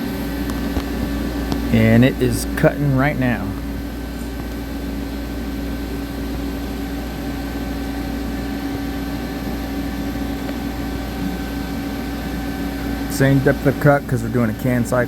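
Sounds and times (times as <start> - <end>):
lathe machining hum: 0.0 - 15.0.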